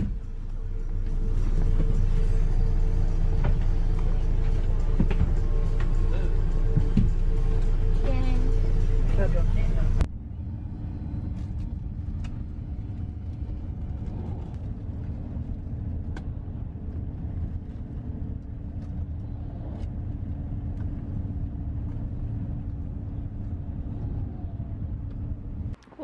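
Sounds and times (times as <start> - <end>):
bus driving rumble: 0.0 - 26.0
constant hum: 0.0 - 26.0.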